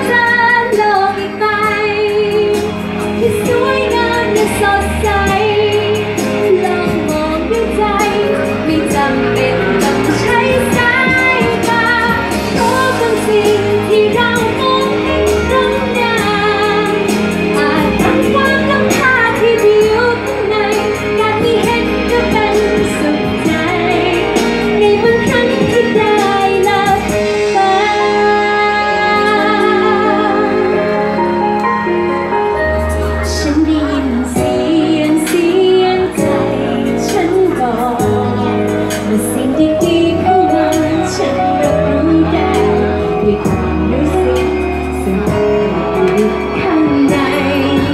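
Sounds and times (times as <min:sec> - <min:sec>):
instrumental backing music: 0:00.0 - 0:47.9
woman singing into microphone: 0:00.0 - 0:47.9.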